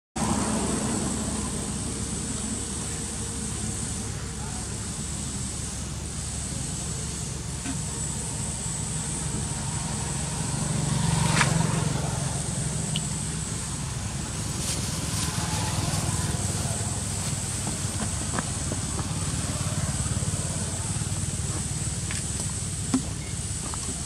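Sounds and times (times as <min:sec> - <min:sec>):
vehicle engine rumble: 0:00.2 - 0:24.0.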